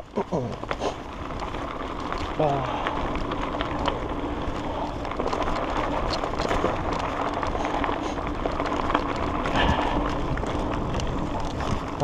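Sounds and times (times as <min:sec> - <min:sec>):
bike clicks and rattles: 0:00.0 - 0:12.0
bike tyre and trail noise: 0:00.0 - 0:12.0.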